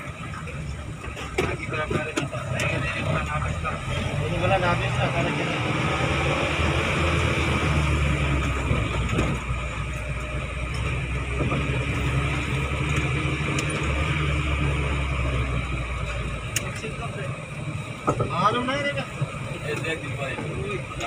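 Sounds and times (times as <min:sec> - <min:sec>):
car engine hum: 0:00.0 - 0:21.0
tyres rushing on road: 0:00.0 - 0:21.0.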